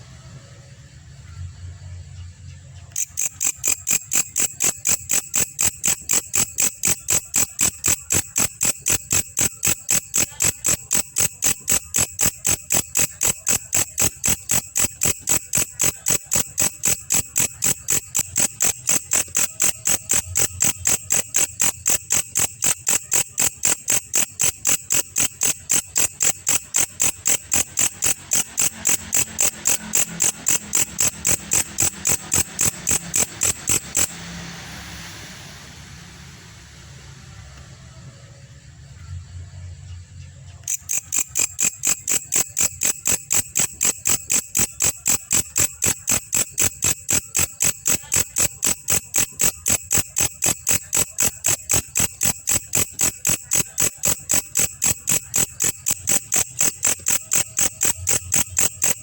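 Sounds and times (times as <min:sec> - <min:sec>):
katydid chirping: 0:02.8 - 0:34.5, 0:40.5 - 0:59.0.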